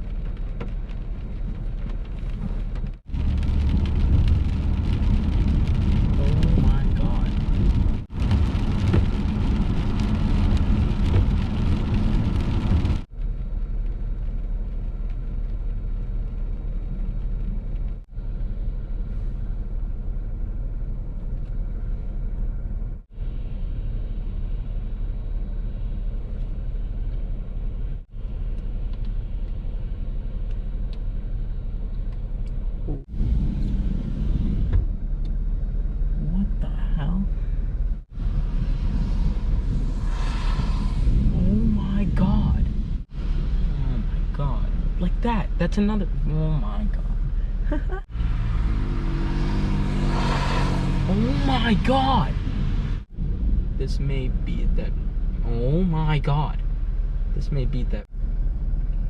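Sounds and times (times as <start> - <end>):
car road rumble inside cabin: 0.0 - 59.0.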